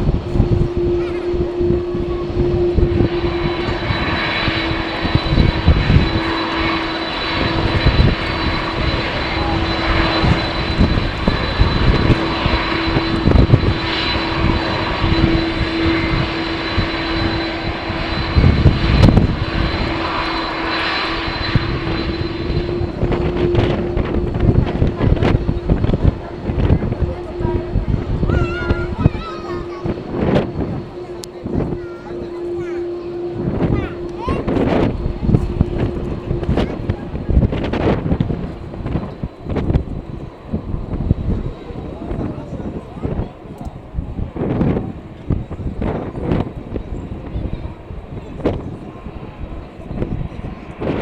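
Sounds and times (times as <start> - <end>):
jet engines whining: 0.0 - 51.0
wind buffeting microphone: 0.0 - 51.0.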